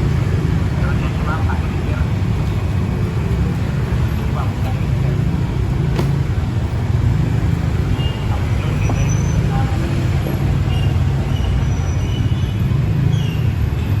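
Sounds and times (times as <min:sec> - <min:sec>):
heavy road traffic rumble: 0:00.0 - 0:14.0.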